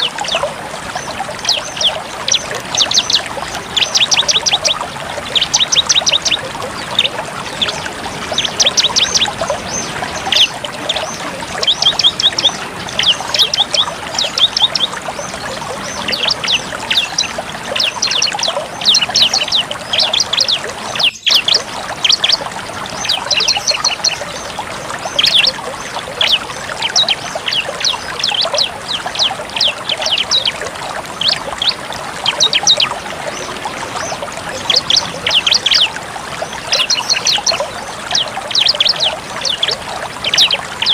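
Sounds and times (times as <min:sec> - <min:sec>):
bird singing high rapid notes: 0:00.0 - 0:22.4, 0:23.0 - 0:30.6, 0:31.2 - 0:40.9.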